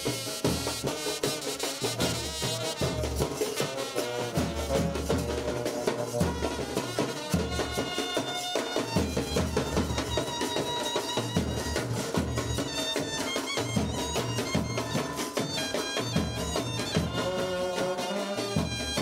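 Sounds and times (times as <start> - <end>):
music with drums and percussion: 0.0 - 19.0.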